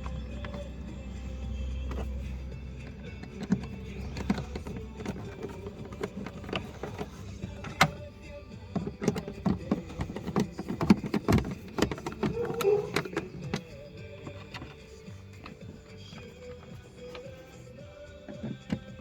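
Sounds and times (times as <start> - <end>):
car parts clicking and knocking: 0.0 - 19.0
faint music: 0.0 - 19.0.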